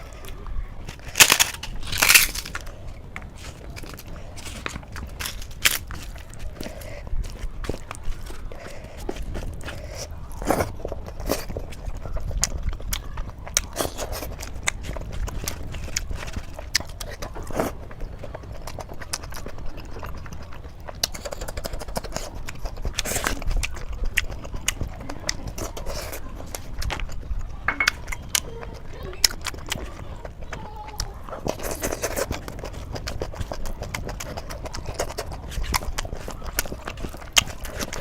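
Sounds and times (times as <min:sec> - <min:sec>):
chewing with lip smacks: 0:00.0 - 0:38.0.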